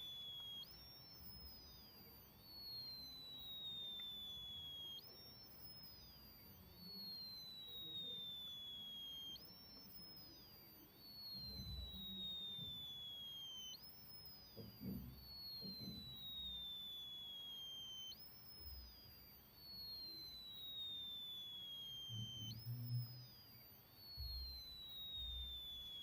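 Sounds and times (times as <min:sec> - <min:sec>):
high-pitched electronic whine: 0:00.0 - 0:26.0.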